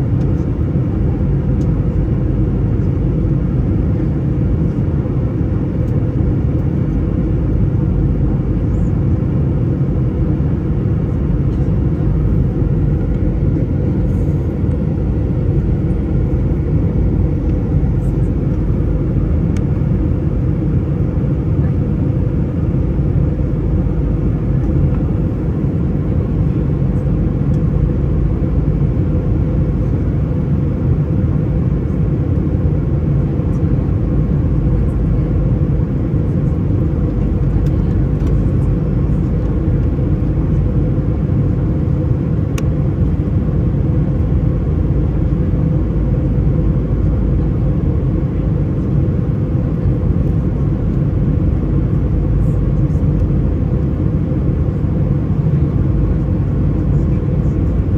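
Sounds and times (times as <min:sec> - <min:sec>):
jet engine drone in cabin: 0:00.0 - 0:57.9.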